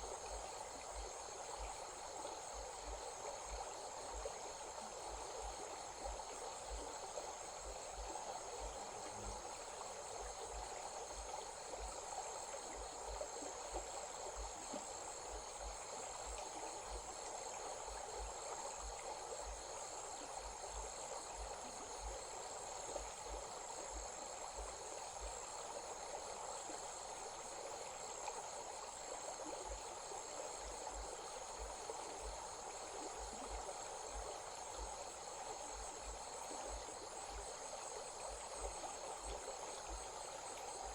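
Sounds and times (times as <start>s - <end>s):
flowing stream: 0.0s - 40.9s
insects chirring: 0.0s - 40.9s.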